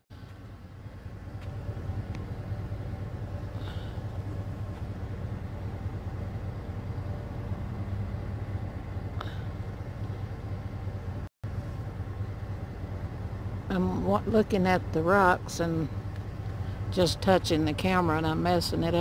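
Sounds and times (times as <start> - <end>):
van engine idling: 0.1 - 19.0.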